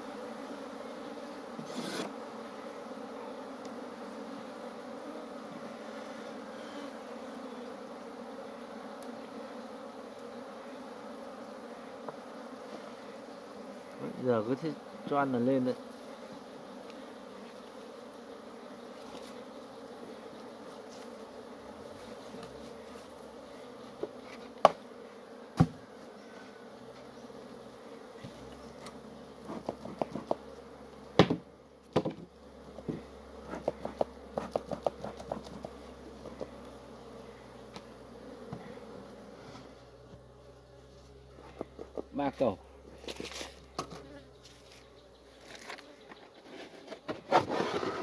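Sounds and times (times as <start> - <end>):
honeybees buzzing: 0.0 - 48.0.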